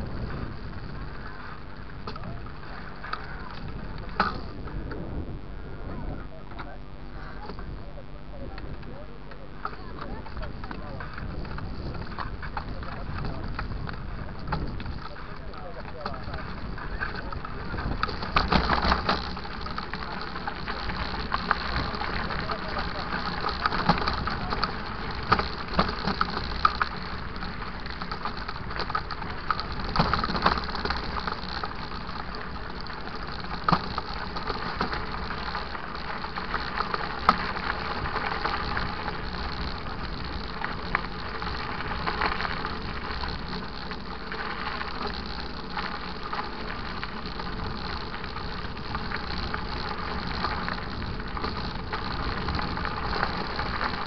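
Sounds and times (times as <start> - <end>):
bike rattling and knocking: 0.0 - 54.0
bike tyres rolling on dirt: 0.0 - 54.0.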